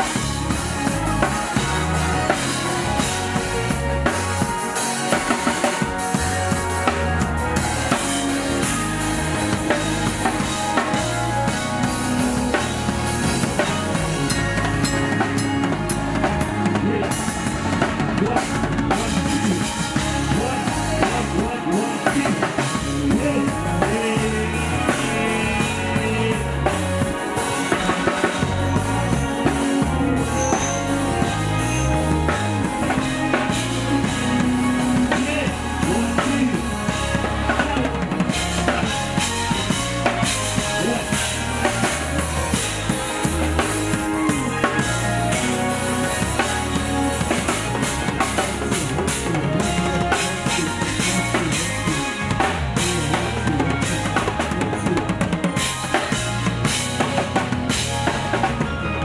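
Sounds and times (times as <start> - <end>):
drum kit beat: 0.0 - 59.0
electric bass line: 0.0 - 59.0
keyboard chords: 0.0 - 59.0.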